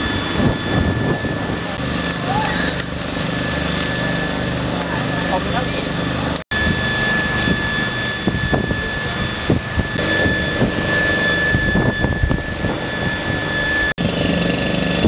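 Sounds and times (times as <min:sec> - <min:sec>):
high-pitched whine: 0:00.0 - 0:15.0
small machinery engine droning: 0:00.0 - 0:15.0.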